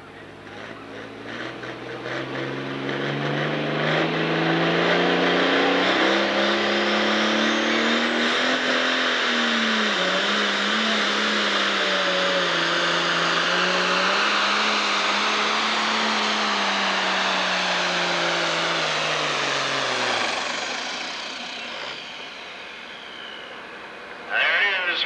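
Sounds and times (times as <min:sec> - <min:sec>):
diesel engine under full load: 0:00.0 - 0:25.0
high turbo whine: 0:00.0 - 0:25.0.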